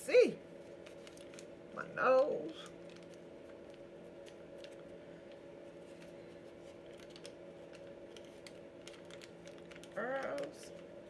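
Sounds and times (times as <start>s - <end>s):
steady low hum: 0.0s - 11.0s
paper crinkling and dabbing: 0.6s - 1.5s, 2.4s - 11.0s.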